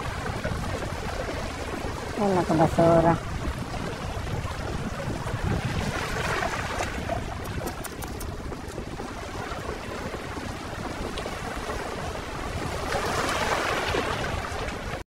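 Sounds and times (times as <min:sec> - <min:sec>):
small waves washing over rocks: 0:00.0 - 0:15.0.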